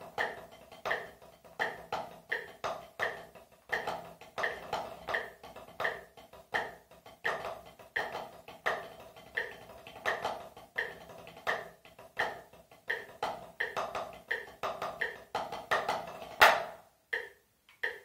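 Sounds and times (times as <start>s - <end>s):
drumsticks on practice pad: 0.0s - 18.0s.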